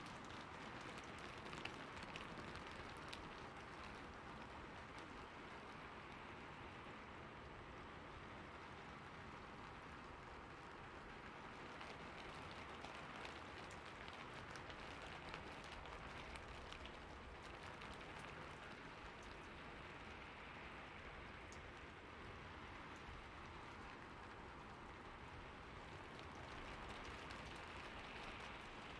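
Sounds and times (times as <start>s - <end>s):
rain hiss with drop ticks: 0.0s - 28.9s.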